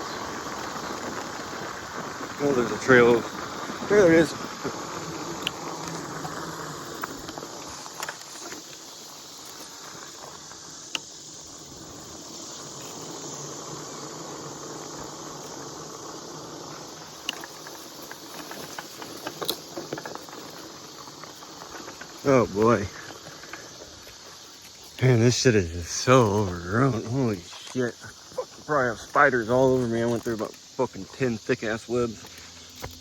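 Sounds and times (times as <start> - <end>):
bike brushing through vegetation: 0.0 - 33.0.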